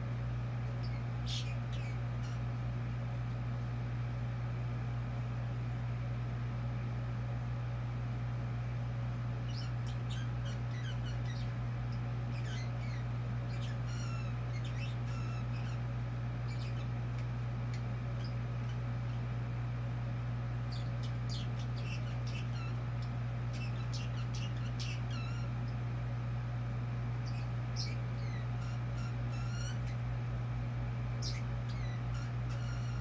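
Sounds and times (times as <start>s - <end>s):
steady low hum: 0.0s - 33.0s
pet birds chirping: 0.3s - 4.7s, 8.7s - 33.0s.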